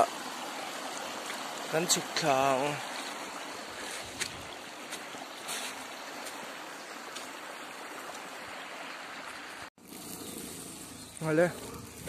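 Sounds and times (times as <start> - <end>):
stream running over stones: 0.0 - 12.0.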